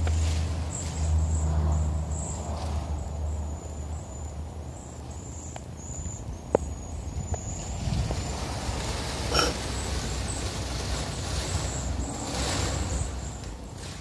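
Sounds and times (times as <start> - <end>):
flock of birds chirping: 0.0 - 14.0
low engine rumble: 0.0 - 14.0.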